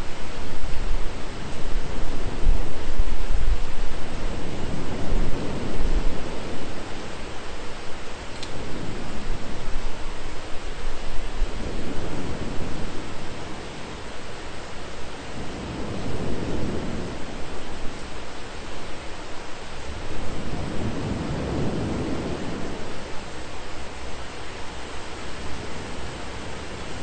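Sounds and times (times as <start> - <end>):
rain hissing: 0.0 - 27.0
thunder rumbling: 0.0 - 27.0.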